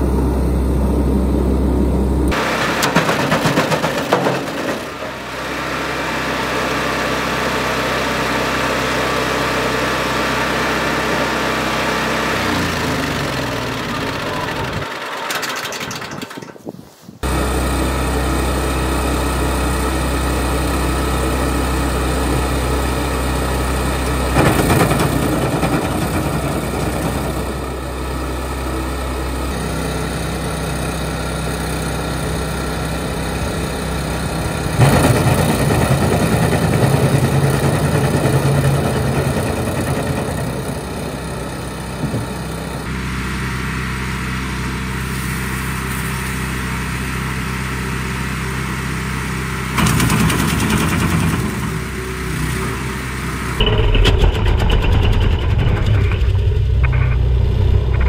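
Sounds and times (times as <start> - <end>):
wood chipper engine running: 0.0 - 16.5, 17.2 - 58.0.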